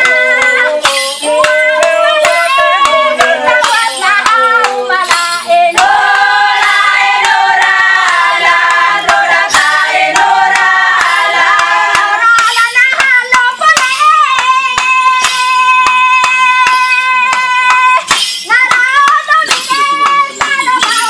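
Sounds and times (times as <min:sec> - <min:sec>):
sharp clacks beat: 0:00.0 - 0:21.0
women singing a chant: 0:00.0 - 0:21.0.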